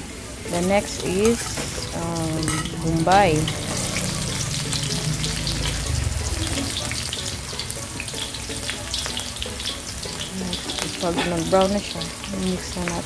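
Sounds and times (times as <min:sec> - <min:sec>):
garlic and onion sizzling in oil: 0:00.0 - 0:13.0.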